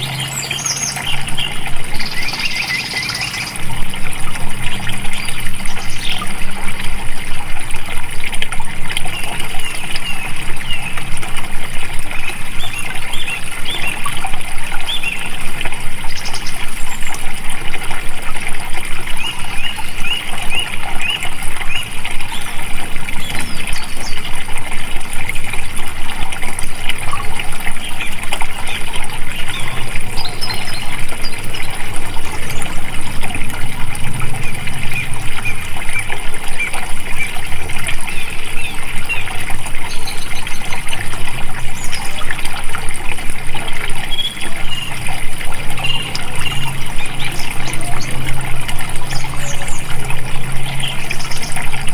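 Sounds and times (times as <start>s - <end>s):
birds chirping: 0.0s - 51.9s
flowing water: 0.0s - 51.9s.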